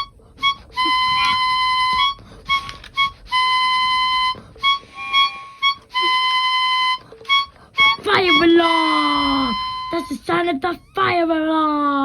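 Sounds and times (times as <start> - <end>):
flute-like held tones: 0.0 - 11.1.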